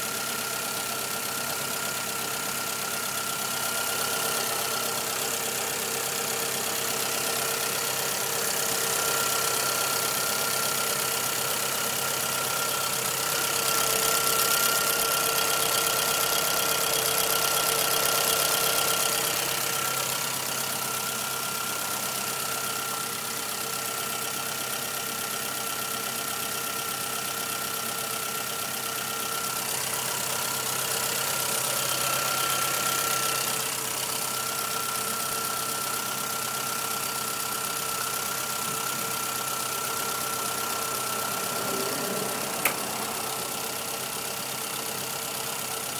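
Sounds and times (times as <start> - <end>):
car engine idling: 0.0 - 45.9
engine ticking: 0.1 - 25.4, 28.0 - 45.9.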